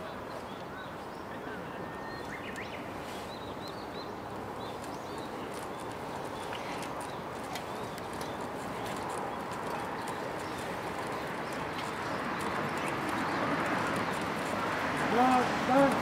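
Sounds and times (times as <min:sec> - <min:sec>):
open-air background noise: 0:00.0 - 0:16.0.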